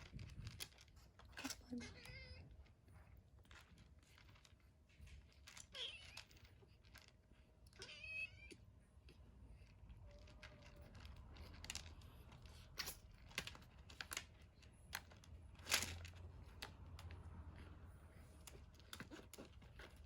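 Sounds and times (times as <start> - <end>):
light clicks and crinkles: 0.0 - 20.0.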